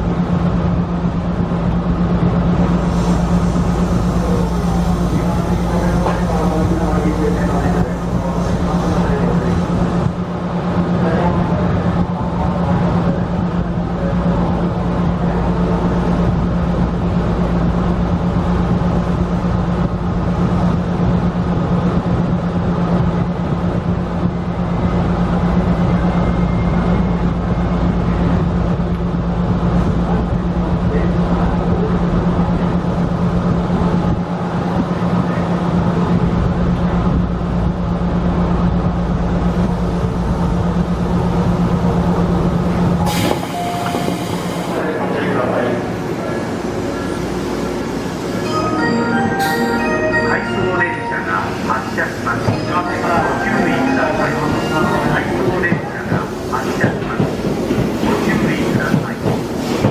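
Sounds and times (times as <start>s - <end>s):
electric train hum: 0.0s - 59.9s
wheel and rail rumble: 0.0s - 59.9s.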